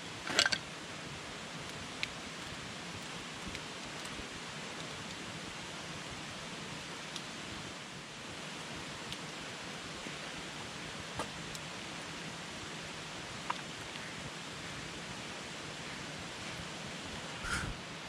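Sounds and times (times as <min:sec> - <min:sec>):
campfire hissing: 0:00.0 - 0:18.0.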